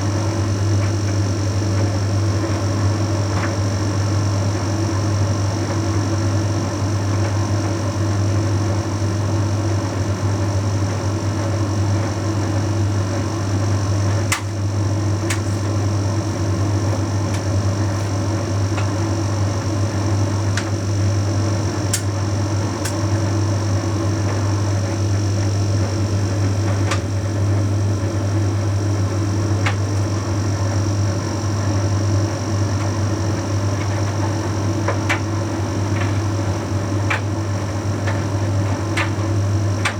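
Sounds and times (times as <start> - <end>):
tumble dryer droning: 0.0 - 39.9.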